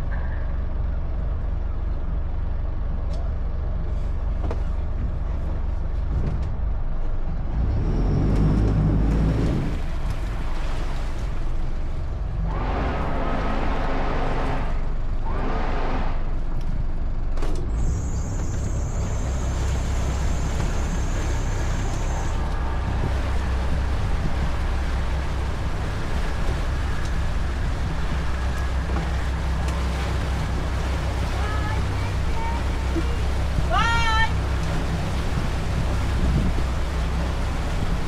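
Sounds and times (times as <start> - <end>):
boat engine rumble: 0.0 - 38.0.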